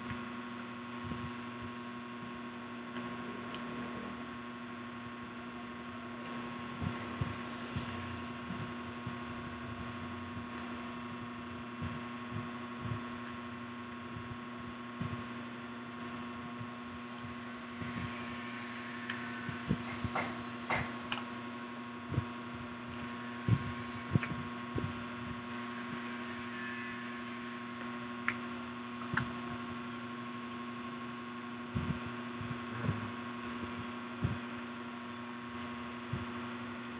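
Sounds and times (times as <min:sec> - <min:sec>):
electrical hum: 0:00.0 - 0:36.9.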